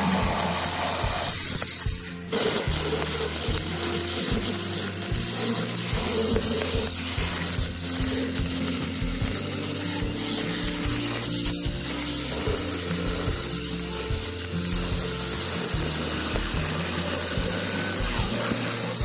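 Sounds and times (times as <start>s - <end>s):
background music with bass line: 0.0s - 19.0s
stone saw grinding whine: 0.0s - 19.0s.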